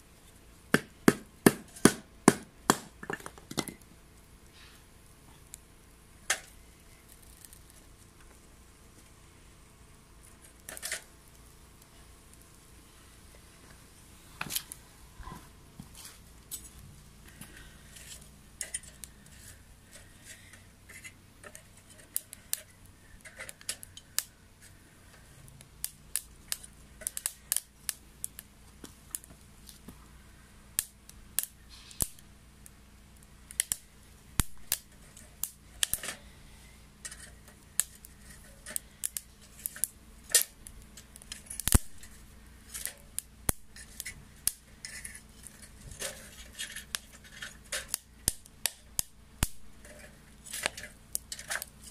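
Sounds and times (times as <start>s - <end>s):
firewood crackling and popping: 0.0s - 51.9s.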